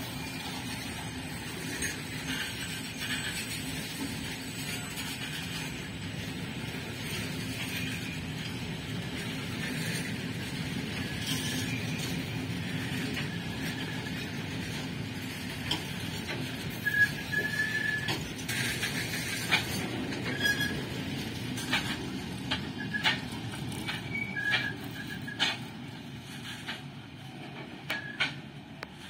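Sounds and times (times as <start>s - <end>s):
freight wagon wheels rumbling: 0.0s - 29.0s
wheel squeals: 0.0s - 29.0s.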